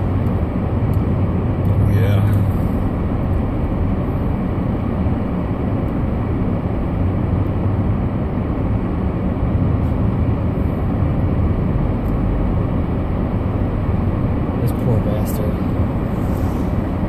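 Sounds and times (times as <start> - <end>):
car engine and tyre noise: 0.0 - 17.0
low hum: 0.0 - 17.0.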